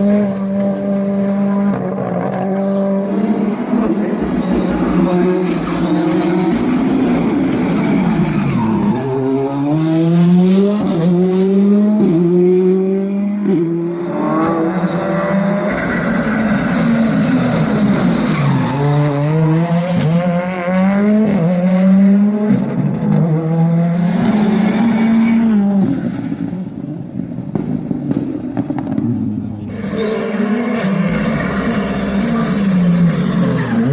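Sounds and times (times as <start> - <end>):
rally car engine accelerating: 0.0 - 33.9.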